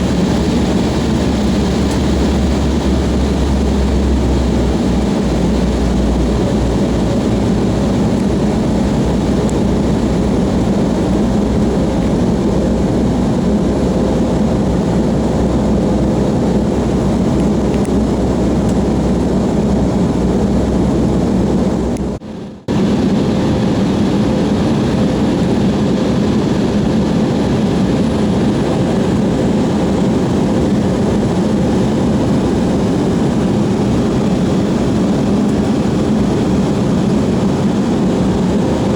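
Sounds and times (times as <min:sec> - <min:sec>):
airliner cabin engine noise: 0:00.0 - 0:38.9.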